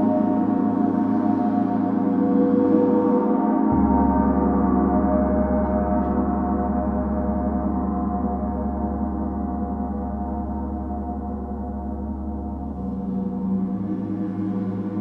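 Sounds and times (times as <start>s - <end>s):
low steady drone: 0.0s - 15.0s.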